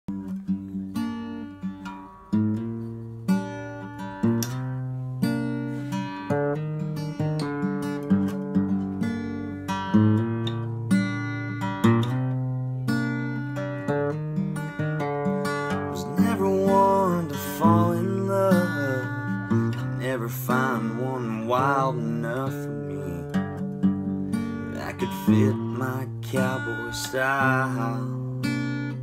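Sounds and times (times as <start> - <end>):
acoustic guitar chords ringing: 0.1 - 29.0.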